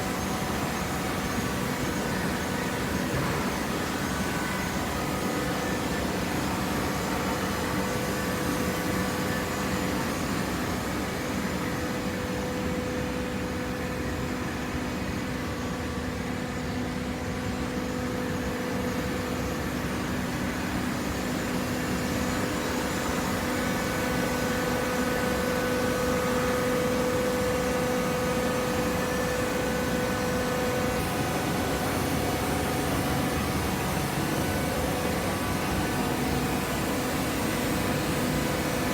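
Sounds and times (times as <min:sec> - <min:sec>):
hydraulic motor and pump humming: 0:00.0 - 0:38.9.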